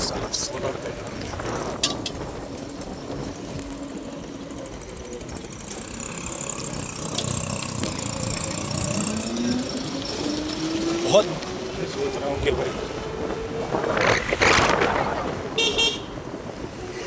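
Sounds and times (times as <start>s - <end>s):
vehicle engine running: 0.0s - 14.0s
road noise: 0.0s - 17.0s.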